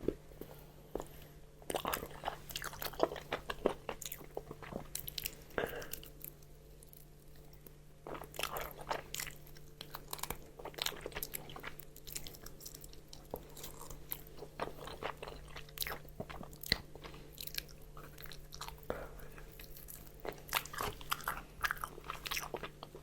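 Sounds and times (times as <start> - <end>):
faint low hum: 0.0 - 23.0
chewing crunchy fried food: 0.9 - 23.0.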